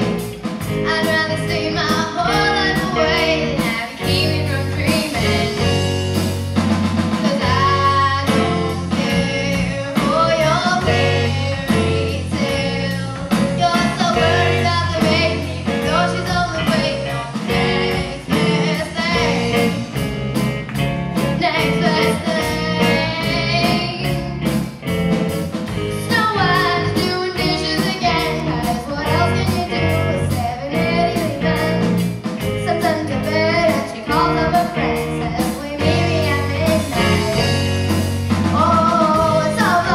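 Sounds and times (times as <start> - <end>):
girl singing lead: 0.0 - 6.4, 7.1 - 24.9, 25.7 - 39.9
drum kit: 0.0 - 39.9
electric bass: 0.0 - 39.9
electric guitar: 0.0 - 39.9.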